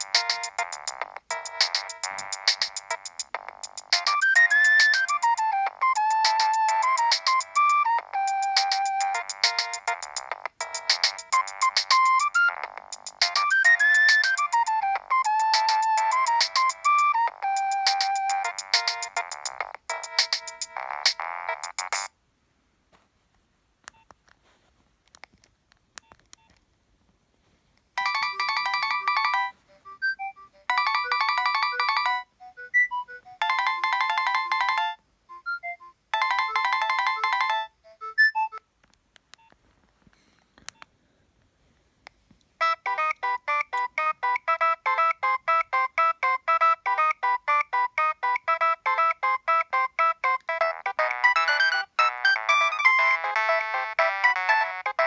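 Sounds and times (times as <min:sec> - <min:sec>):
mobile phone ringtone melody: 0:00.0 - 0:22.1, 0:28.0 - 0:38.6, 0:42.6 - 0:55.0.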